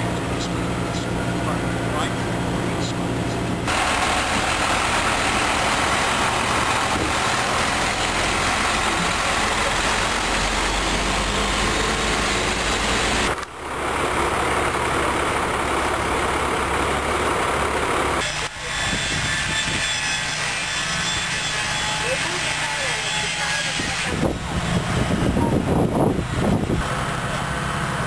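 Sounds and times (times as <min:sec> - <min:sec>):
truck engines idling: 0:00.0 - 0:28.0.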